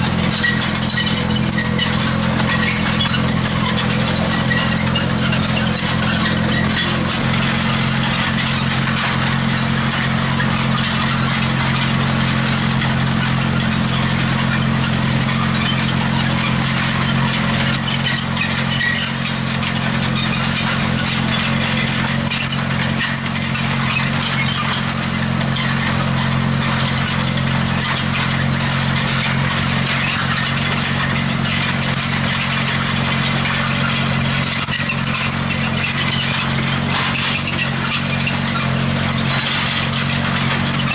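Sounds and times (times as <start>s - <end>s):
hiss and rattle of soil: 0.0s - 40.9s
tractor engine running: 0.0s - 40.9s.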